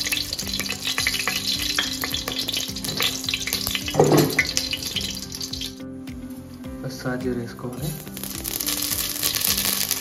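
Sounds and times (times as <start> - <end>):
oil sizzling in a pot: 0.0 - 5.8, 7.8 - 10.0.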